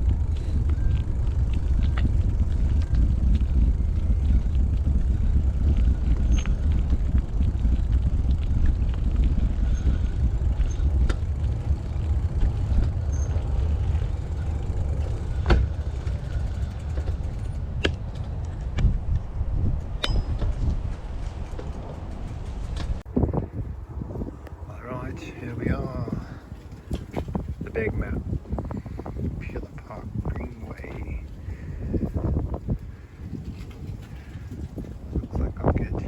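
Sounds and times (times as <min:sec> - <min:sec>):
bike tyre noise: 0:00.0 - 0:36.0
wind rumble on microphone: 0:00.0 - 0:36.0.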